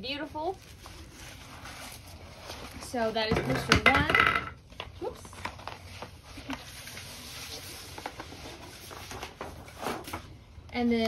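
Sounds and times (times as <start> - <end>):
faint paper crinkling: 0.1 - 3.3, 4.7 - 11.0
paper rustle: 0.4 - 3.3, 4.7 - 11.0.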